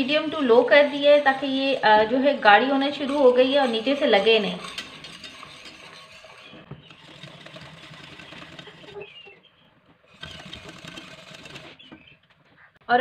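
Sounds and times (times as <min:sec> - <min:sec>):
utensil scraping a metal pot: 0:00.0 - 0:09.4, 0:10.1 - 0:11.9.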